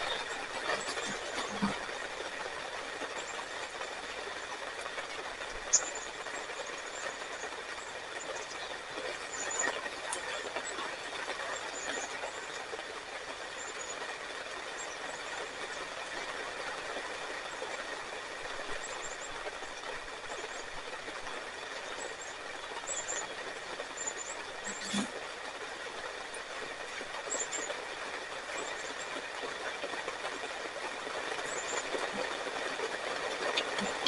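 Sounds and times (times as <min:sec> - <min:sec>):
rain hissing: 0:00.0 - 0:34.0.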